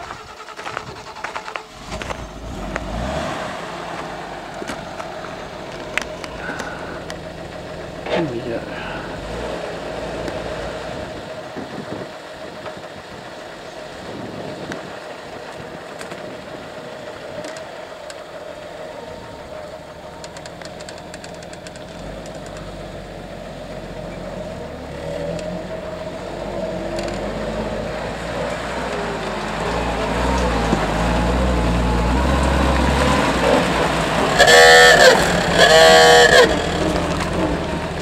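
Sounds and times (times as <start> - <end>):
truck engine at low revs: 0.0 - 38.0.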